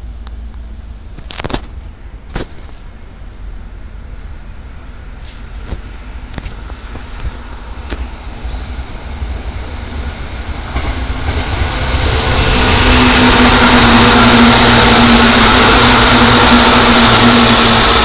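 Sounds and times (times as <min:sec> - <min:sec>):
electric train passing: 0:02.9 - 0:18.0.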